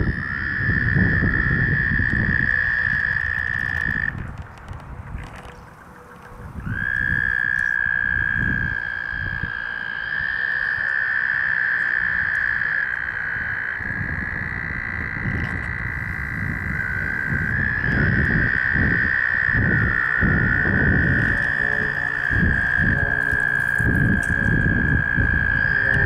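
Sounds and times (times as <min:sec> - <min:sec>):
toads trilling: 0:00.0 - 0:04.2, 0:05.4 - 0:26.0.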